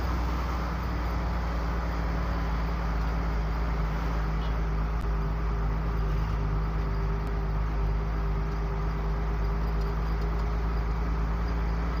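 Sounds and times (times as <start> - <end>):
diesel truck engine rumbling: 0.0 - 12.0
road noise: 0.0 - 12.0.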